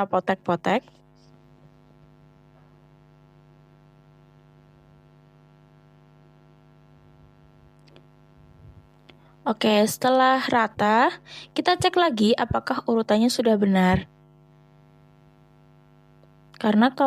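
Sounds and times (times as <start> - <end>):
faint electrical mains hum: 0.0 - 17.0.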